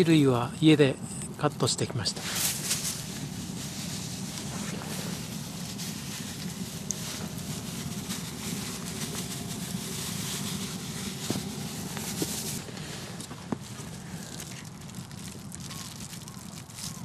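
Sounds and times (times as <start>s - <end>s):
low rushing fire: 0.0s - 17.0s
firewood crackling and popping: 2.2s - 17.0s.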